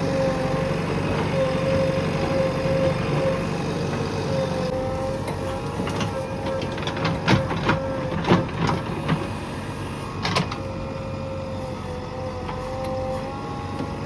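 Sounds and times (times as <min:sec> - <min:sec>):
diesel engine whining: 0:00.0 - 0:14.0.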